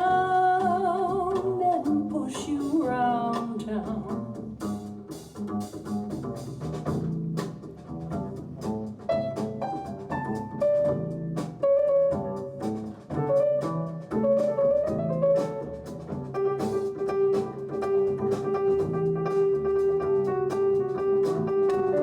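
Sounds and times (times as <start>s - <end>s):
jazz over loudspeakers: 0.0s - 22.0s
walking double bass: 0.0s - 22.0s.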